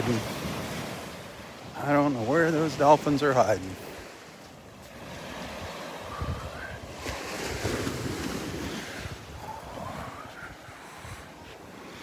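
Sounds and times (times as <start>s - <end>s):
small waves washing on sand: 0.0s - 12.0s.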